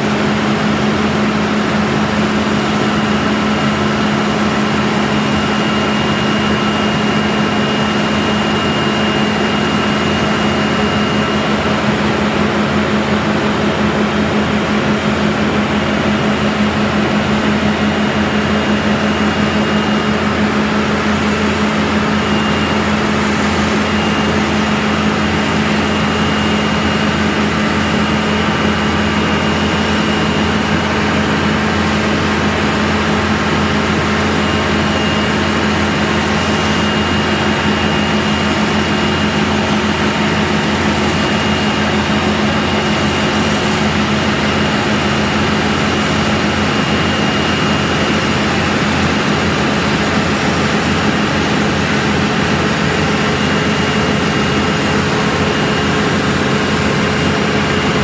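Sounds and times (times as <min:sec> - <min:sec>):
heavy diesel machine drone: 0:00.0 - 0:58.0.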